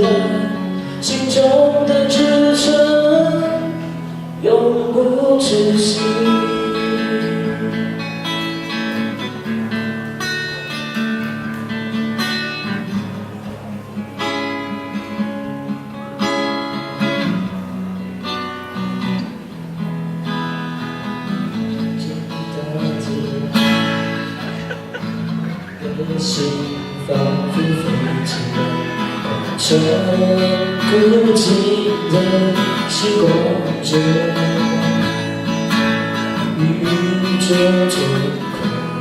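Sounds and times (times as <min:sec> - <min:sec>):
acoustic guitar strumming: 0:00.0 - 0:39.0.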